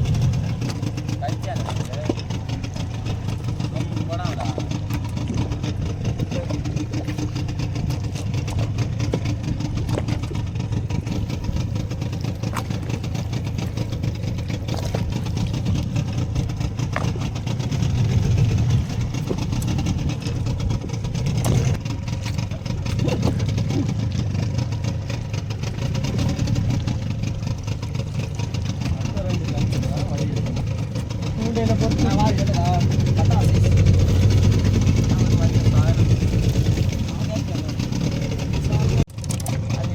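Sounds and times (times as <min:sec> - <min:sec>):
boat engine rumbling: 0:00.0 - 0:39.9.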